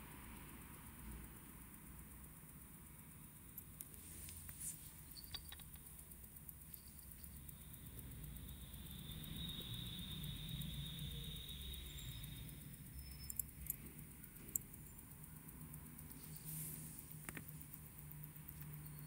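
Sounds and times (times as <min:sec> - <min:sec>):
low steady hum: 0:00.0 - 0:19.0
tweezers clicking on watch parts: 0:00.2 - 0:19.0.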